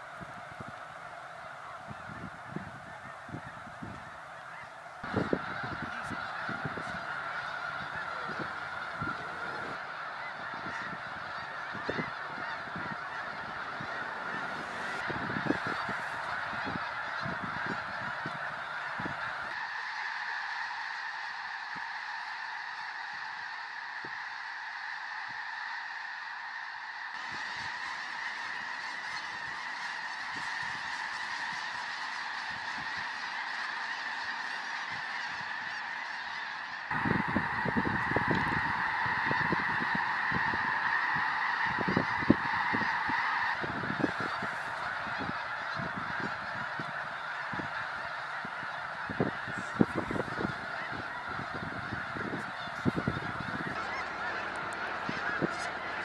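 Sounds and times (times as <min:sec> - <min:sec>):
geese honking in flight: 0:00.0 - 0:56.0.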